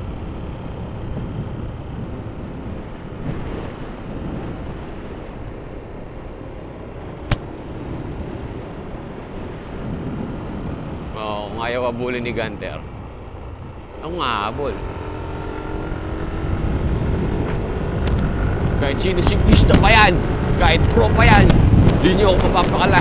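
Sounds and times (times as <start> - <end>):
motorcycle wind and road noise: 0.0 - 23.0
wind buffeting microphone: 0.0 - 23.0.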